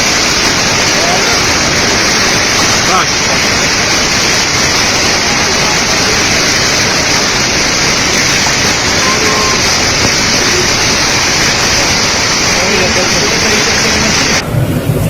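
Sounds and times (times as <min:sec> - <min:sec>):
hail and heavy rain: 0:00.0 - 0:14.4.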